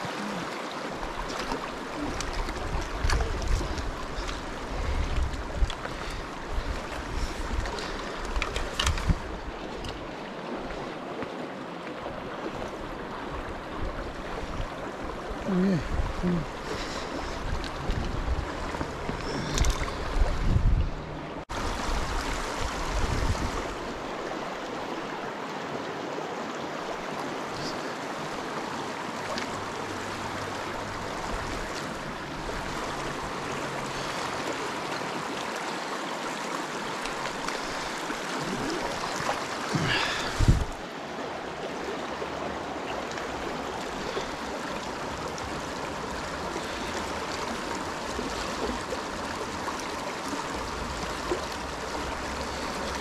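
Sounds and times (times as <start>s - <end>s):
water rushing over stones: 0.0s - 53.0s.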